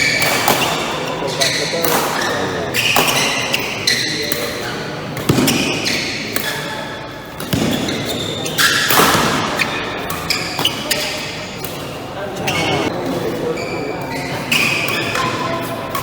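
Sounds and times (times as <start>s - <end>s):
racket striking shuttlecock: 0.0s - 12.0s, 14.5s - 16.0s
shoes squeaking on court: 0.0s - 16.0s.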